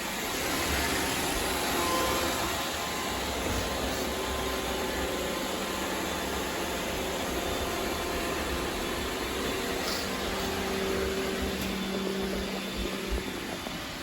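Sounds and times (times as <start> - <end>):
robot vacuum cleaner whirring: 0.0 - 14.0.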